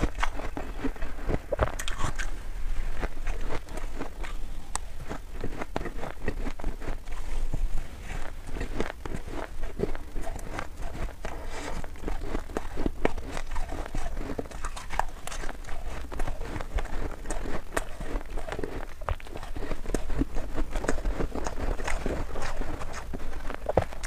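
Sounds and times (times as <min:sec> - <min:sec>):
frost ice being chewed: 0:00.0 - 0:24.0.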